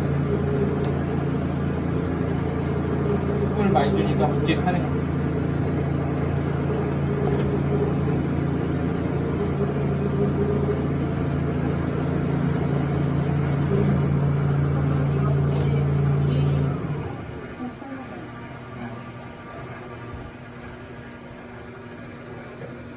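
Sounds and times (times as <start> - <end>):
noodle machine motor hum: 0.0 - 22.9.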